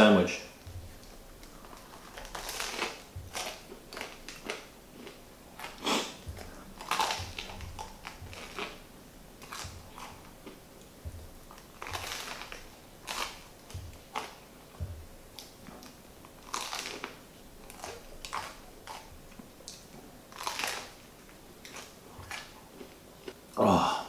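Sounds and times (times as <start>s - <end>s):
crusty bread crunching: 0.7s - 23.4s.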